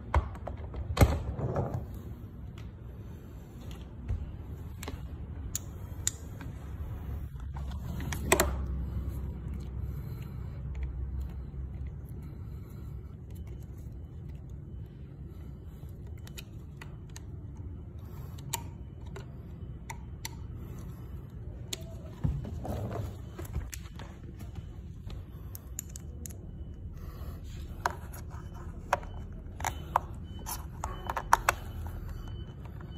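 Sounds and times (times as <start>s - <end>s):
low steady rumble: 1.8s - 32.9s.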